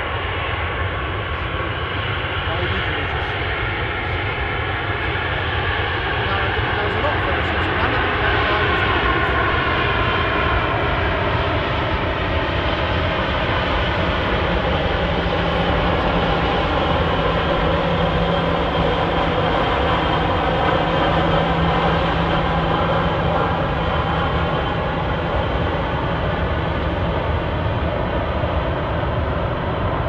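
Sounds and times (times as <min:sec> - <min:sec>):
jet engines running loudly: 0:00.0 - 0:30.0.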